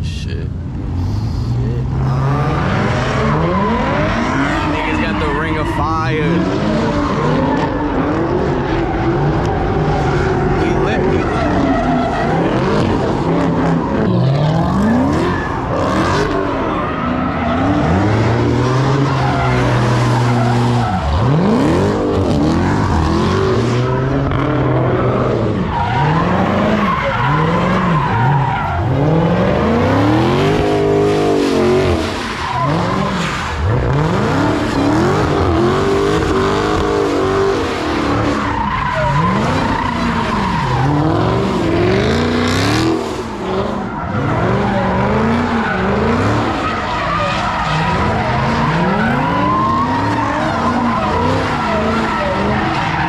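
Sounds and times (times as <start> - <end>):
car engines revving: 0.0 - 53.0
tires squealing on pavement: 1.9 - 53.0.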